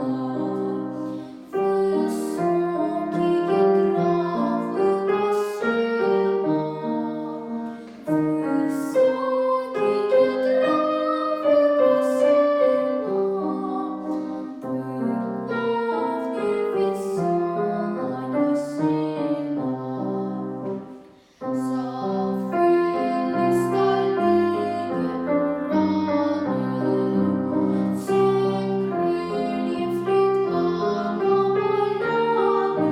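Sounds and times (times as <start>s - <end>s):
woman singing: 0.0s - 20.7s, 21.4s - 32.9s
piano accompaniment: 0.0s - 32.9s.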